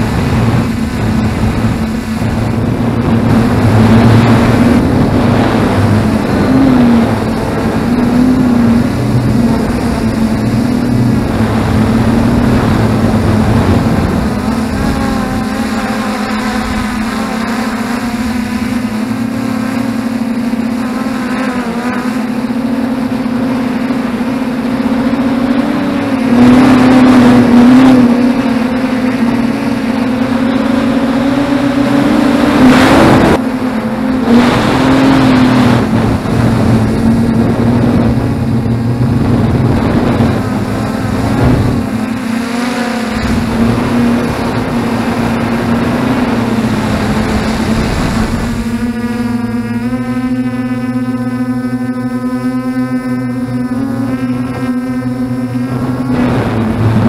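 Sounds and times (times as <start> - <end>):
drone motors humming: 0.0 - 57.0
wind noise on microphone: 0.0 - 57.0.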